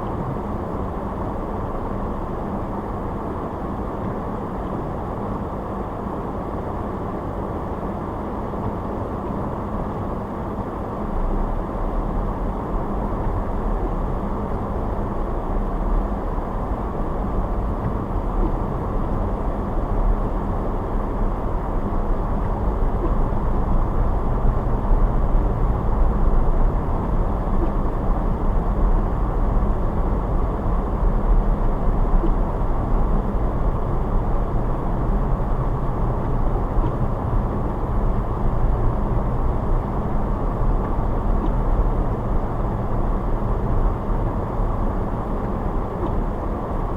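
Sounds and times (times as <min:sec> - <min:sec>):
car road noise: 0:00.0 - 0:46.9.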